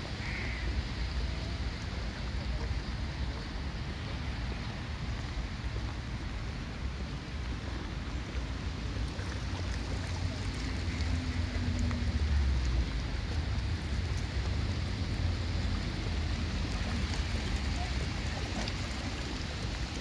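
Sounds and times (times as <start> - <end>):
small waves lapping on rocks: 0.0 - 20.0.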